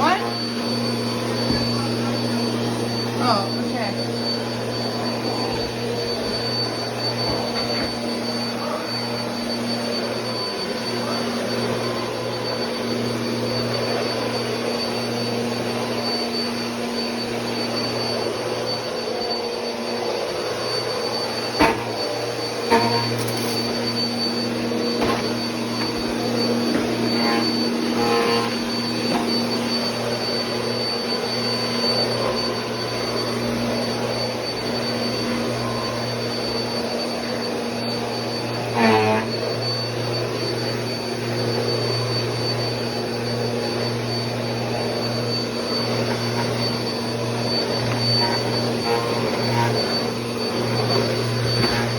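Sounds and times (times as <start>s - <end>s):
upright vacuum running: 0.0s - 51.9s.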